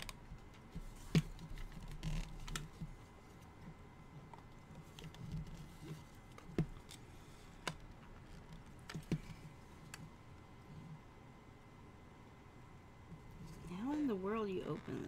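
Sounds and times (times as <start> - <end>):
soft handling noise: 0.0 - 11.1, 13.0 - 15.0.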